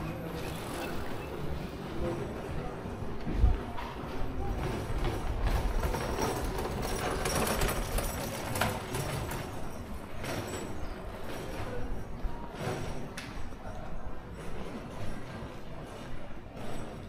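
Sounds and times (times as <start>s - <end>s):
town street background noise: 0.0s - 17.0s.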